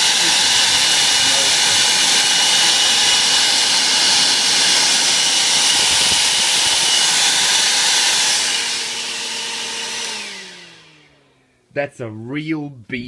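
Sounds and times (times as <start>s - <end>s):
vacuum motor whine: 0.0s - 11.4s.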